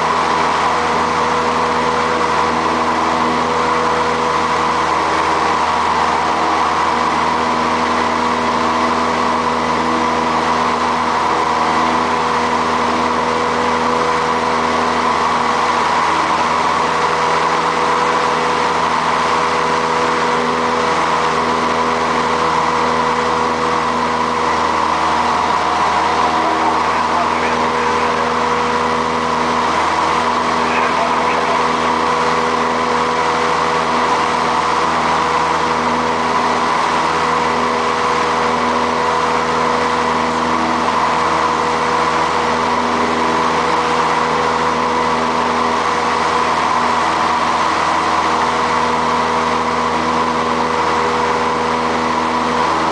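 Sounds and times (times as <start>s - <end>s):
aircraft piston engine drone: 0.0s - 52.9s.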